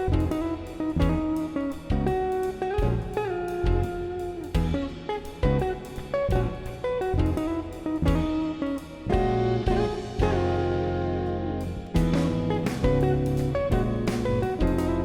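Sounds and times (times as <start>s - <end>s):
guitar instrumental: 0.0s - 15.0s
steady drum beat: 0.0s - 15.0s.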